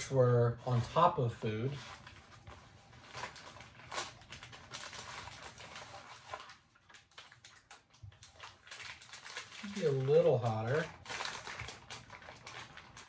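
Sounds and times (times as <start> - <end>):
plastic pouches crinkling: 1.6 - 13.0.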